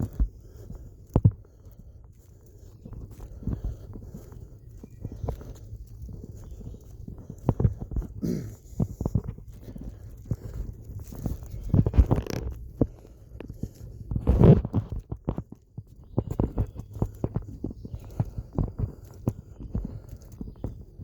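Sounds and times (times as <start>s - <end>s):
footsteps on woodland trail: 0.0s - 21.0s.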